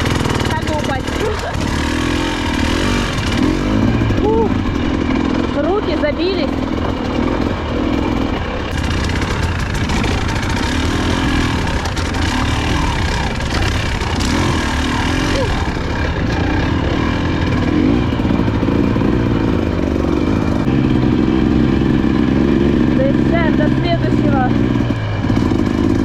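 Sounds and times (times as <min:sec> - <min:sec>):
off-road motorcycle engine: 0:00.0 - 0:26.0.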